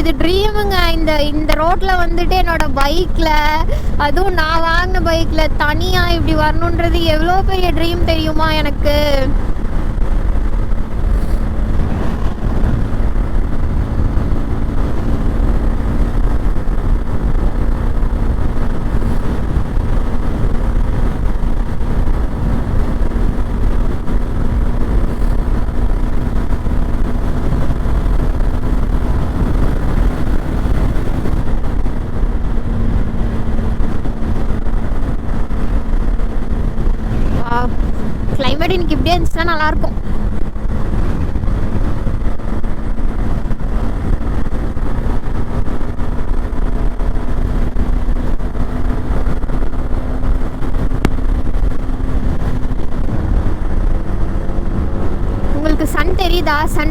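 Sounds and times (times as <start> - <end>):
dense low rumble: 0.0 - 56.9
motorcycle engine running: 0.0 - 56.9.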